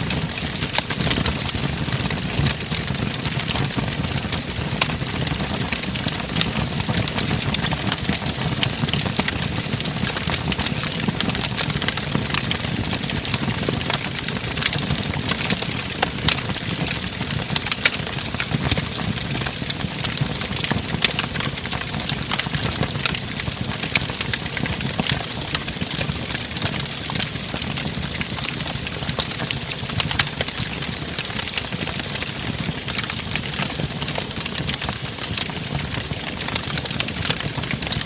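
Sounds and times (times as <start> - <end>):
low rumble of flames: 0.0 - 38.0
wood fire crackling: 0.0 - 38.0.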